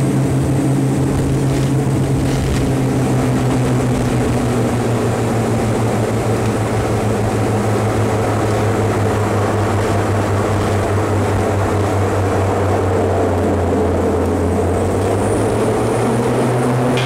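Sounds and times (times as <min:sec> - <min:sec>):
small aircraft engines droning: 0:00.0 - 0:17.0.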